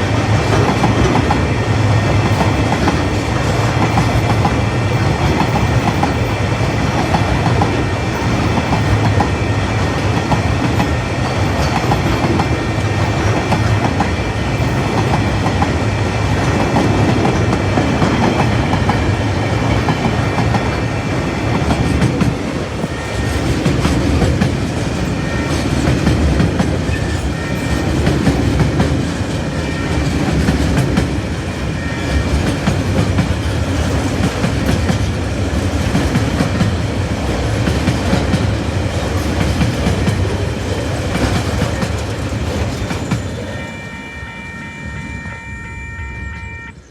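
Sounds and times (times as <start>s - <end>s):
freight train wheels clacking: 0.0s - 46.9s
high ringing of wheels on rails: 0.0s - 46.9s.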